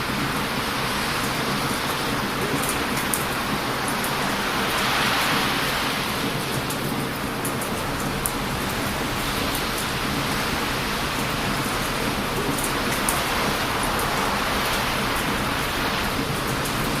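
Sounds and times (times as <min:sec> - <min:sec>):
bonfire crackling: 0:00.0 - 0:17.0
surf breaking on beach: 0:00.0 - 0:17.0.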